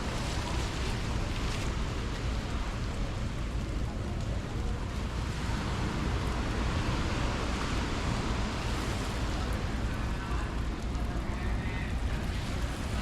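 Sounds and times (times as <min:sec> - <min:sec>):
heavy rain: 0:00.0 - 0:13.0
wind gusts rumbling on microphone: 0:00.0 - 0:13.0.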